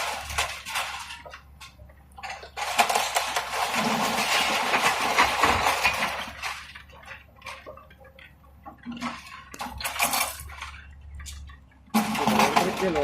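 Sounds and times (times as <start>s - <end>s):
debris clinks and knocks: 0.0s - 13.0s
falling demolition debris: 0.0s - 13.0s.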